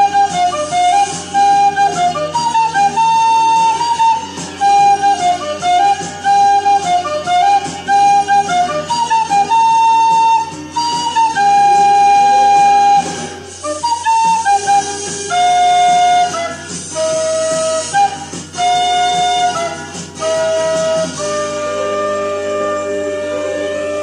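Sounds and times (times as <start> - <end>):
recorder playing slow melody: 0.0 - 24.0.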